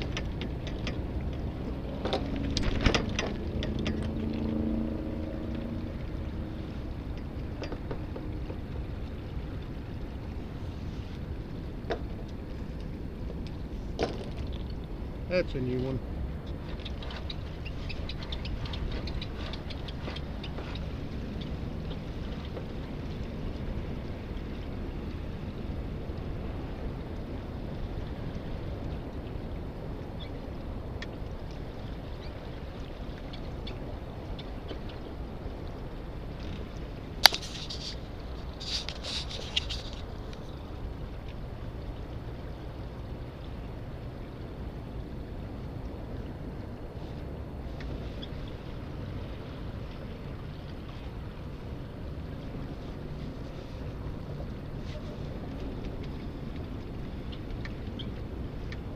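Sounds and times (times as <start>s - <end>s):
rushing water: 0.0s - 58.9s
wind: 0.0s - 58.9s.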